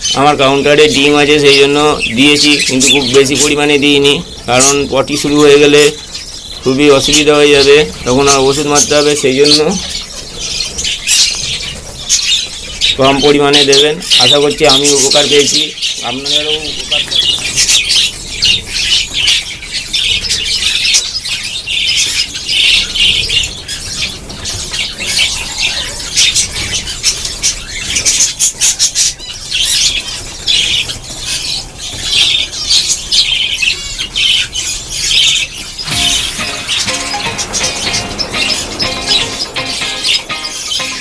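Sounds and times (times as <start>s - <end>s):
parrots chattering and squawking: 0.8s - 41.0s.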